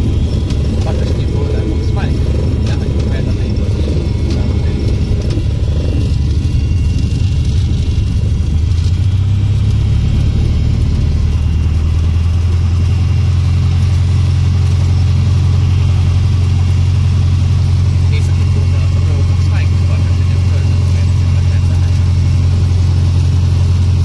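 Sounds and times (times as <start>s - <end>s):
airplane engine drone: 0.0s - 24.0s.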